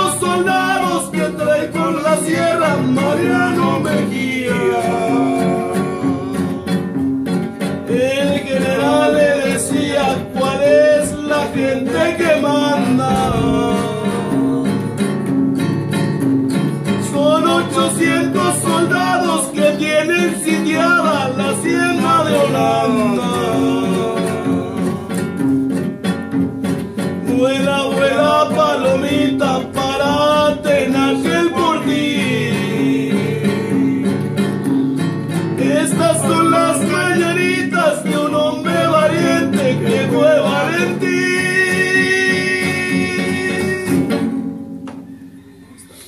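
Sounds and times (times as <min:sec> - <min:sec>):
man singing: 0:00.0 - 0:15.4, 0:16.8 - 0:25.7, 0:27.2 - 0:44.4
acoustic guitar: 0:00.0 - 0:46.0.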